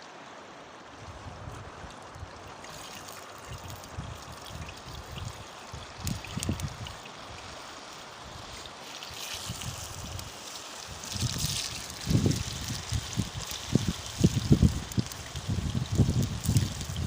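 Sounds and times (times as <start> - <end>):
river water flowing: 0.0 - 17.0.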